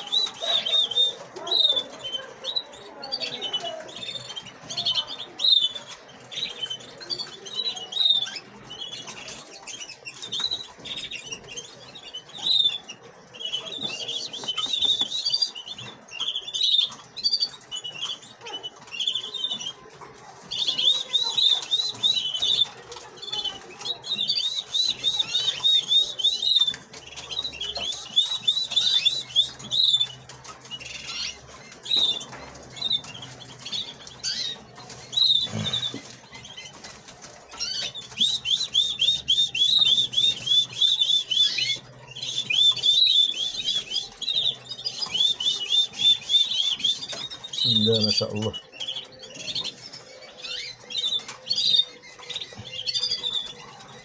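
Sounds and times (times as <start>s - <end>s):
nestlings cheeping: 0.0s - 54.0s.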